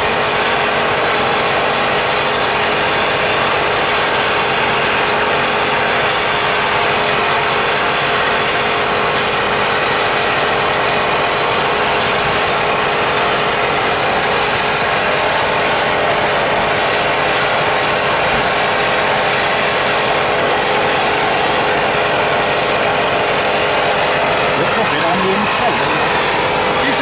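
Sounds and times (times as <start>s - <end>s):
loud mechanical running noise: 0.0s - 27.0s.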